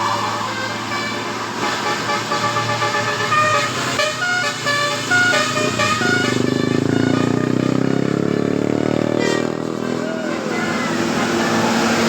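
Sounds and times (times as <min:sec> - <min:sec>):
bus musical horn melody: 0:00.0 - 0:12.0
loud engine running: 0:00.0 - 0:12.0.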